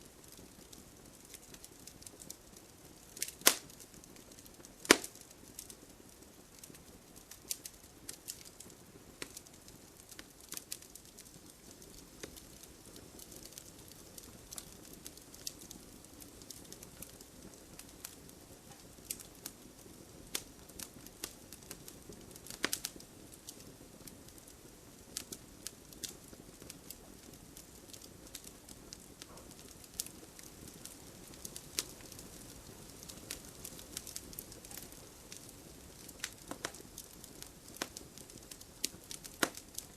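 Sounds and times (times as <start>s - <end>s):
flames hissing: 0.0s - 39.9s
wood fire crackling and popping: 0.0s - 39.9s.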